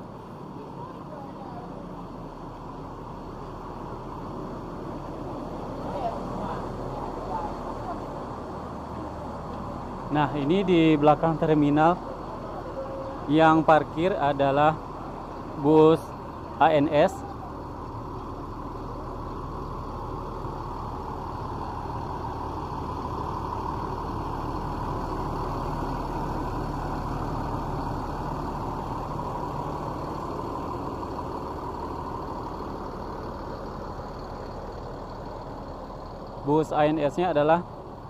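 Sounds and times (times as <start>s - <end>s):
diesel bus engine idling: 0.0s - 38.0s.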